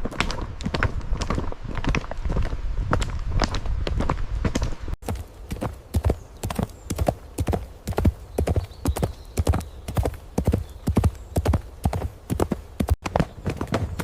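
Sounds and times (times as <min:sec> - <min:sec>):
horse hoofbeats: 0:00.0 - 0:14.0.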